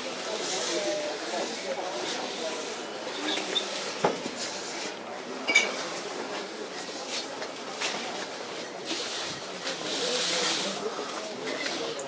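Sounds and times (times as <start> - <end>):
indoor background noise: 0.0 - 12.0.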